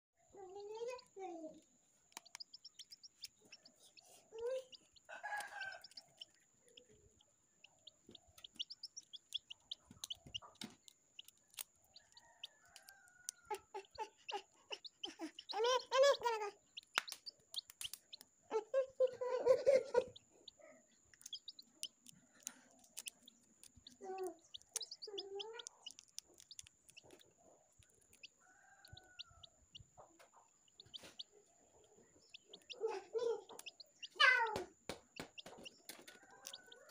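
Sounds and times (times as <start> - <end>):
eggshell crackling: 2.0 - 18.5, 19.8 - 36.9
chicken calls: 2.2 - 36.9.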